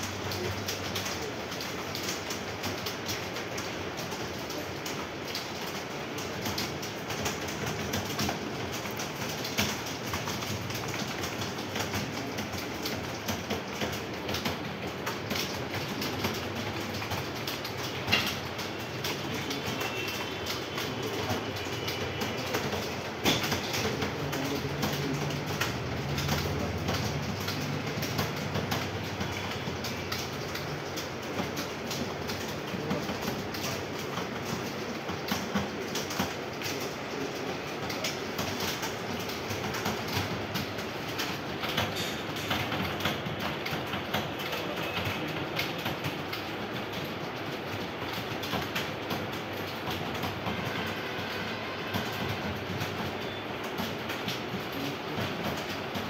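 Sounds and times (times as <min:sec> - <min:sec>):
many keyboards clattering: 0:00.0 - 0:56.0.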